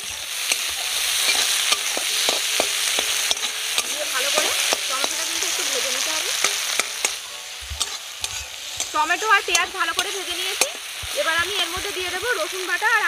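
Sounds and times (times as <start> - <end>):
metal spatula scraping pan: 0.0 - 12.1
vegetables sizzling in oil: 0.0 - 13.0.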